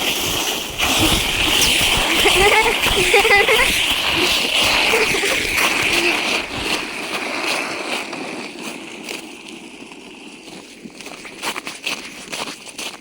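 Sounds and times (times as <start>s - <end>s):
sled scraping over icy snow: 0.0s - 13.0s.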